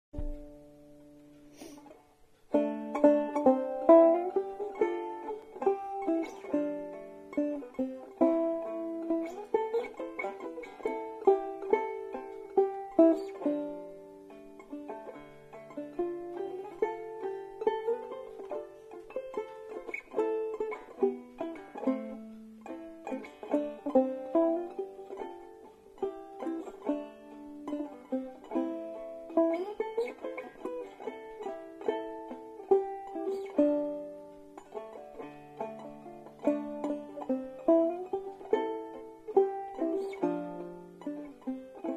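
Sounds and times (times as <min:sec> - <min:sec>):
banjo plucking a tune: 0:00.1 - 0:41.9.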